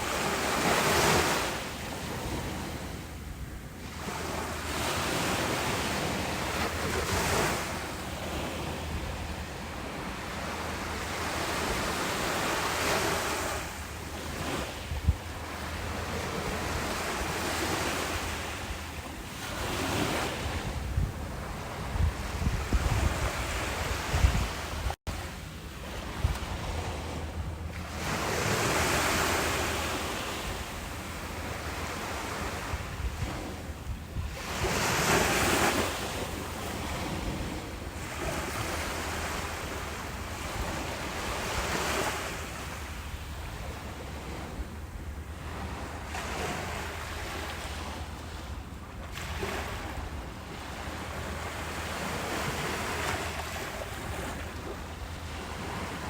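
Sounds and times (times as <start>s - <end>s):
ocean waves breaking on beach: 0.0s - 56.0s
wind noise on microphone: 0.0s - 56.0s.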